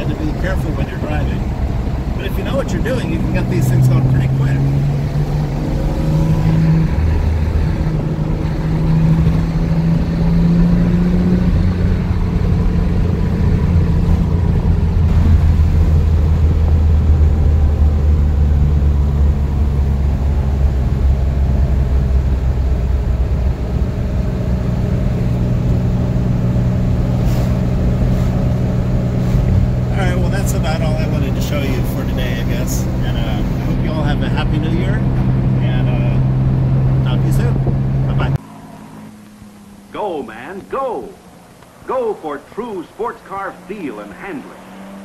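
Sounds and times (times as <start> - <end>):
car engine drone from inside: 0.0 - 45.0.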